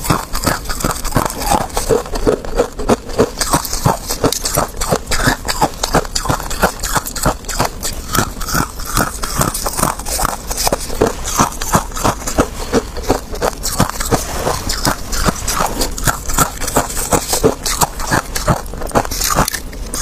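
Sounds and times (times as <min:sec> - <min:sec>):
chewing frozen food crunches: 0:00.0 - 0:20.0.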